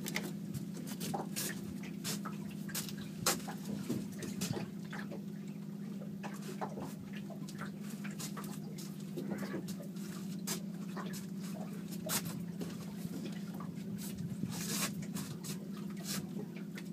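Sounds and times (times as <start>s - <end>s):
outboard motor humming: 0.0s - 16.9s.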